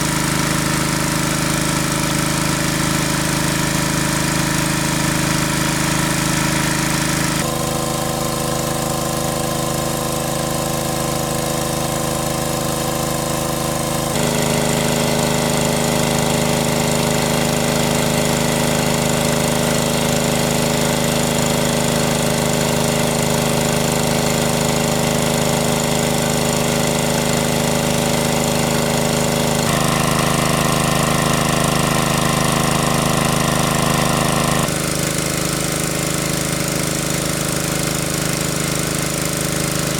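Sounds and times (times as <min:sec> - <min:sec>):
water pump engine running: 0:00.0 - 0:39.9.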